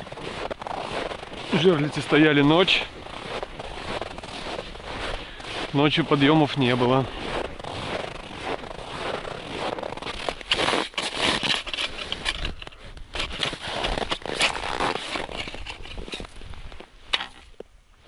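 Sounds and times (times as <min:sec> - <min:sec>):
boots crunching through frozen snow: 0:00.0 - 0:17.6.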